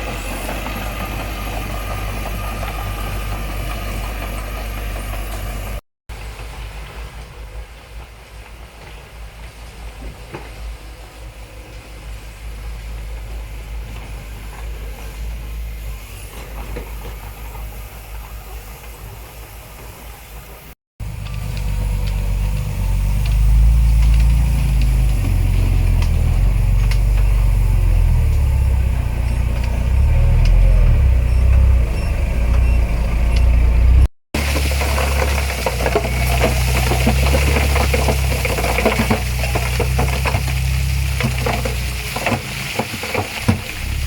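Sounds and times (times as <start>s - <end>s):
heavy diesel engine rumbling: 0.0s - 6.4s, 11.1s - 44.0s.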